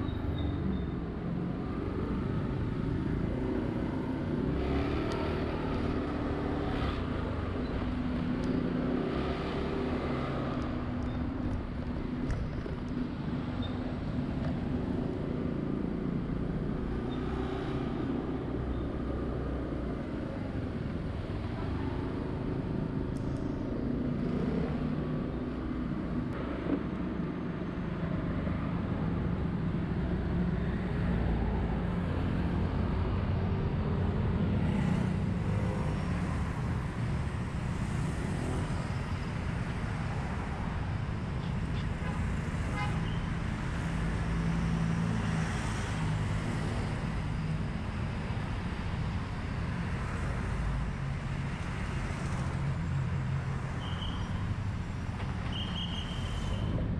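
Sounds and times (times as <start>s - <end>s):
city traffic noise: 0.0s - 56.9s
vehicles passing: 0.0s - 56.9s.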